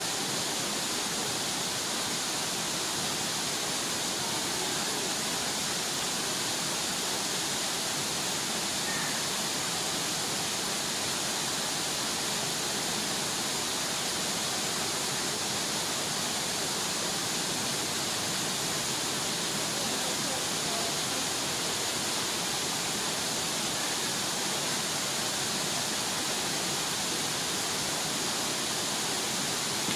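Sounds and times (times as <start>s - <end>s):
waterfall splashing onto rocks: 0.0s - 29.9s.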